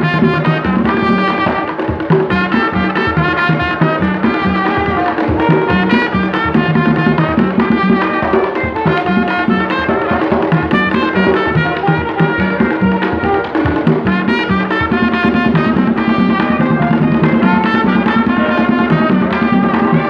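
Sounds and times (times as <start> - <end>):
brass horns holding notes: 0.0 - 20.0
hand drums playing steady rhythm: 0.0 - 20.0.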